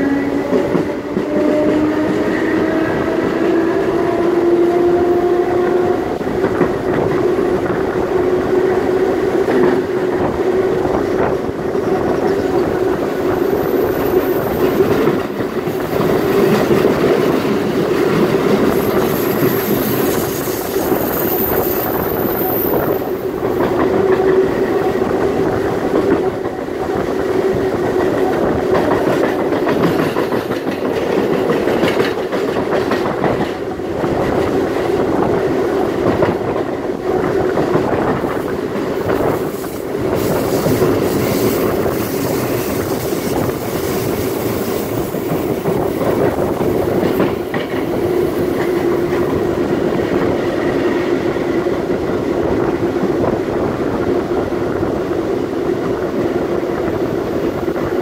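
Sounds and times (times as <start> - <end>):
rail clicks: 0.0 - 58.0
wheels rumbling on rail: 0.0 - 58.0.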